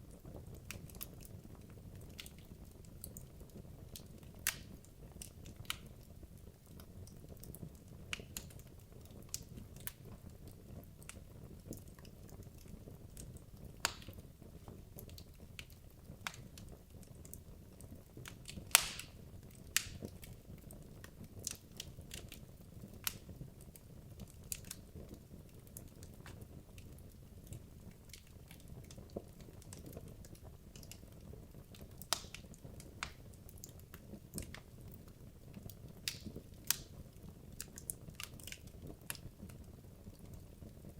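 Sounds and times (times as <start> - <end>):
logs crackling in fireplace: 0.0 - 40.9.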